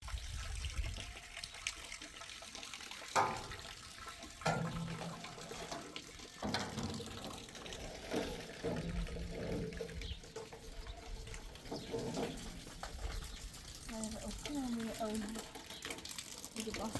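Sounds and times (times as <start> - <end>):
water running and splashing: 0.0 - 16.9.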